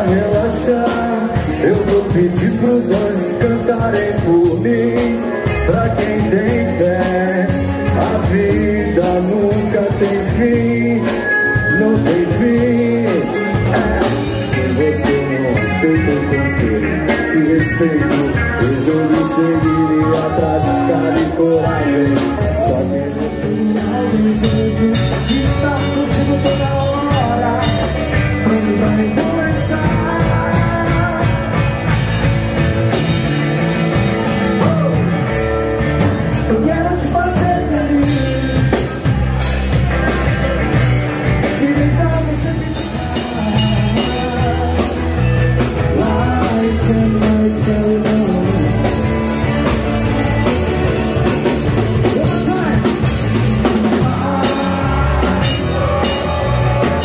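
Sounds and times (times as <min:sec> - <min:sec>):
man singing: 0:00.0 - 0:32.2, 0:32.9 - 0:35.5, 0:36.2 - 0:57.0
drum kit beat: 0:00.0 - 0:57.0
electric bass: 0:00.0 - 0:57.0
strummed guitar: 0:00.0 - 0:57.0.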